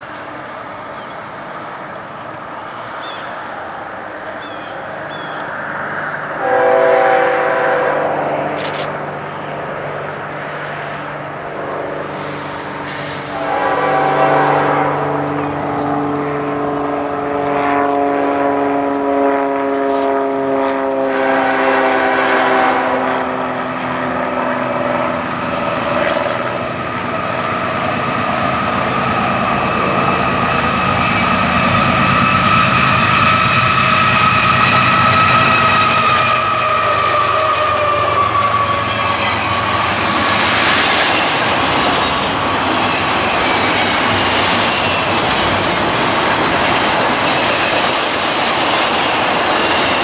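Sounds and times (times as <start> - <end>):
diesel locomotives passing: 0.0 - 50.0.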